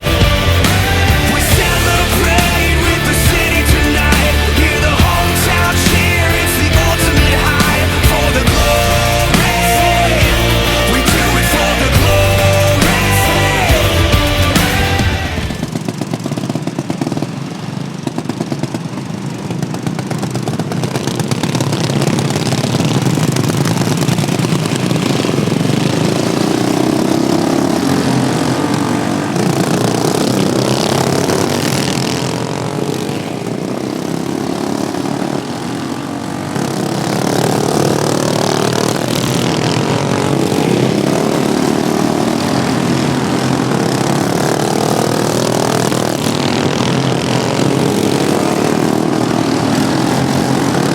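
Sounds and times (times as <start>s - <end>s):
racing lawnmower engines revving: 0.0s - 50.9s.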